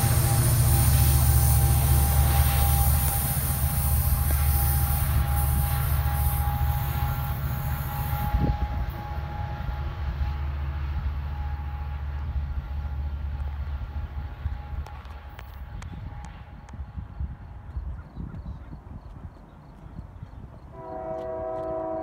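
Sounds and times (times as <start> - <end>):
deep locomotive engine rumble: 0.0 - 22.0
rail noise: 0.0 - 22.0.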